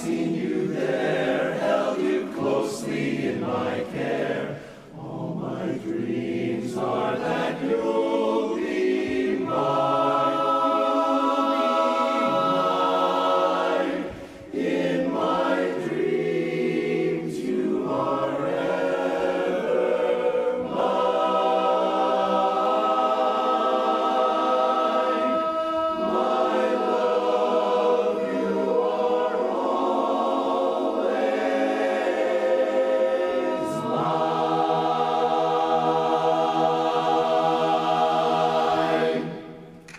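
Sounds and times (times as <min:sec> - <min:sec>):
chorus singing a cappella: 0:00.0 - 0:39.9.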